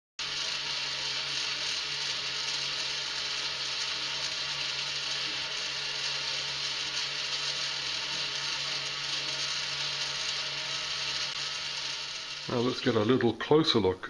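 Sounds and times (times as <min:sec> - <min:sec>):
toy motor whirring: 0:00.2 - 0:13.1.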